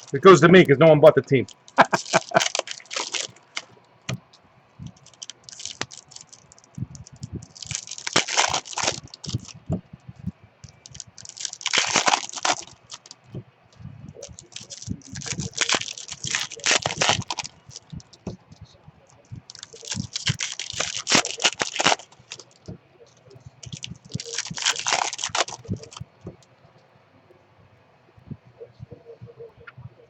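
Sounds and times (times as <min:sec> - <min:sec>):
card packs crinkling: 0:00.0 - 0:09.8, 0:10.6 - 0:18.5, 0:19.1 - 0:26.4
scattered clicks: 0:00.0 - 0:26.6.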